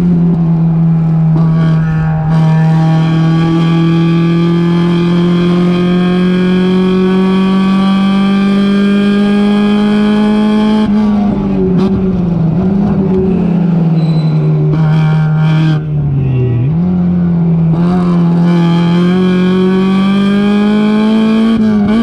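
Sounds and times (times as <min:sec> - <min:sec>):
race car engine at full throttle: 0:00.0 - 0:22.0.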